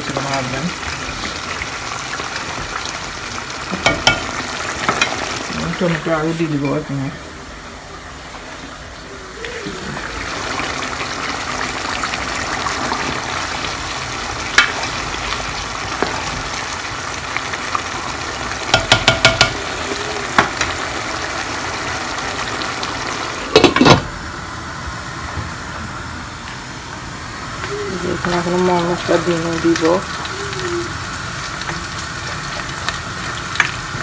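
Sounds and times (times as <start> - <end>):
curry sizzling in a pot: 0.0 - 34.0.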